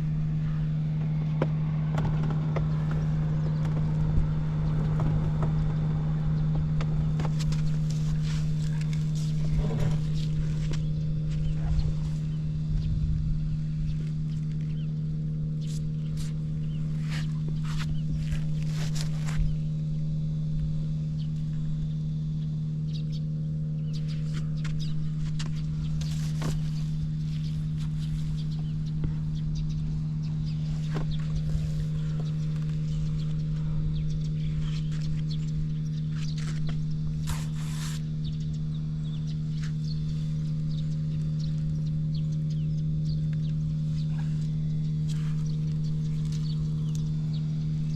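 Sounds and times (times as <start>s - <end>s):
scooter engine idling: 0.0s - 47.9s.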